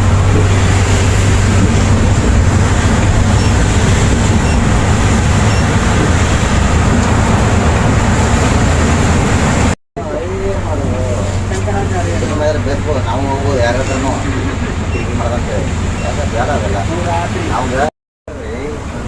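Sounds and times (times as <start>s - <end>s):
coach engine hum: 0.0s - 19.0s
road noise: 0.0s - 19.0s.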